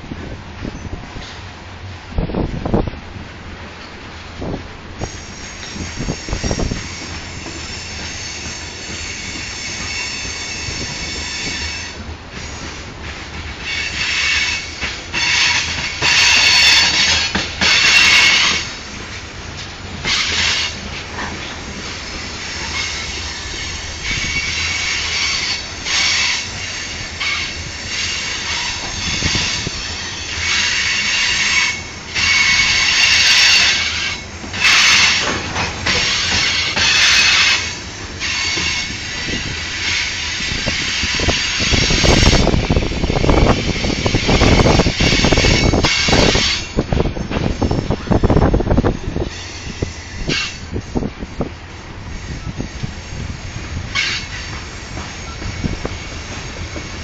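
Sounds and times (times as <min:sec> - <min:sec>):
low rumble of rail cars: 0:00.0 - 0:57.0
train wheels squealing: 0:05.0 - 0:12.8, 0:13.6 - 0:18.9, 0:20.0 - 0:48.5, 0:49.1 - 0:50.8, 0:53.9 - 0:57.0.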